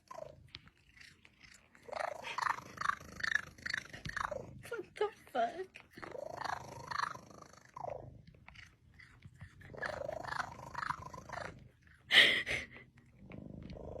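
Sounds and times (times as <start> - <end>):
cat purring: 0.0 - 14.0
cat vocal sounds: 0.0 - 14.0.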